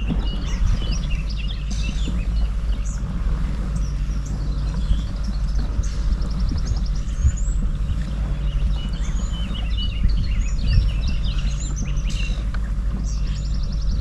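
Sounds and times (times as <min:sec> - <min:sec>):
songbirds chirping and singing: 0:00.0 - 0:14.0
steady low rumble: 0:00.0 - 0:14.0.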